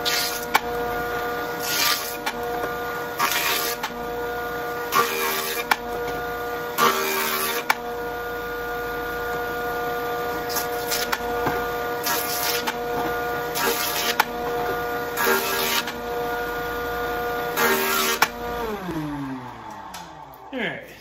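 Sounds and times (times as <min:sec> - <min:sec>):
jointer cutting wood: 0:00.0 - 0:20.8
jointer whining: 0:00.0 - 0:21.0.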